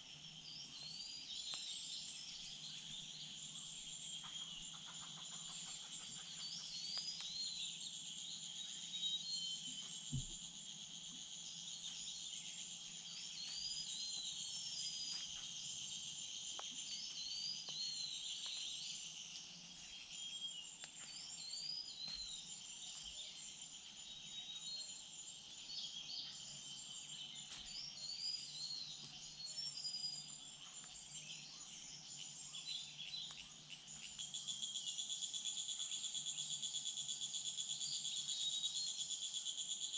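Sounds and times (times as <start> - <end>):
insects buzzing: 0.0 - 39.9
small birds chirping: 0.0 - 39.9.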